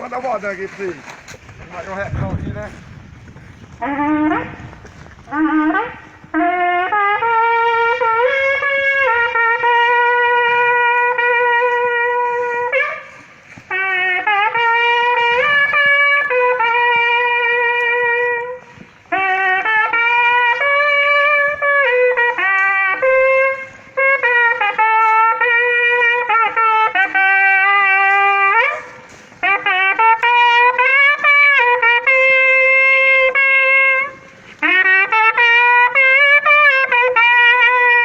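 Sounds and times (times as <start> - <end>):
cattle horn blown in melodic call: 0.0 - 38.0.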